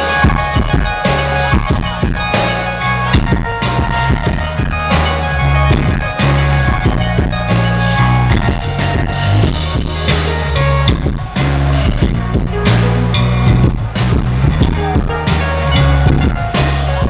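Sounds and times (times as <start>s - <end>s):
heavy bass notes: 0.0s - 17.0s
live band music: 0.0s - 17.0s
steady drum beat: 0.0s - 17.0s.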